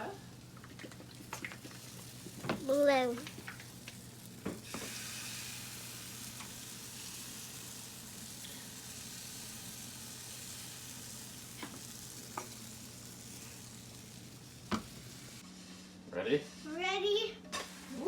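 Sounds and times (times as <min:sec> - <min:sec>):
batter sizzling on a pan: 0:00.0 - 0:15.8, 0:17.5 - 0:18.0.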